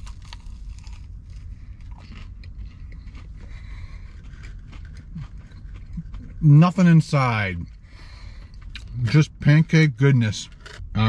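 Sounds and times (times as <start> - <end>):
soft crunchy chewing: 0.0 - 11.0
steady low hum: 0.0 - 11.0.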